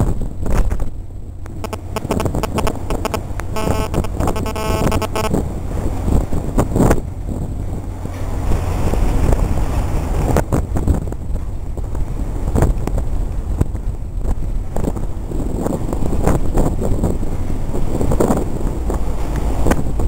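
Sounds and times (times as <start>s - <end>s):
ferry engine rumble: 0.0s - 20.0s
wind buffeting microphone: 0.0s - 20.0s.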